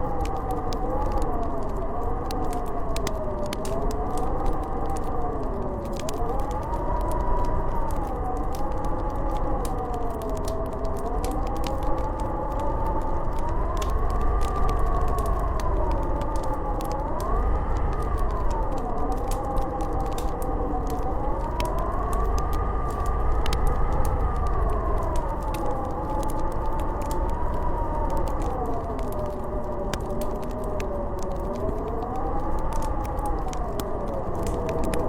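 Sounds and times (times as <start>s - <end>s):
howling blizzard wind: 0.0s - 35.0s
wood fire crackling: 0.0s - 35.0s.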